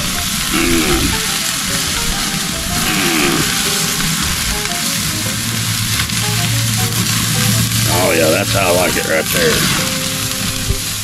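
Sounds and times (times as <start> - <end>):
background music: 0.0 - 11.0
chicken sizzling on a grill: 0.0 - 11.0
low hum: 0.0 - 11.0.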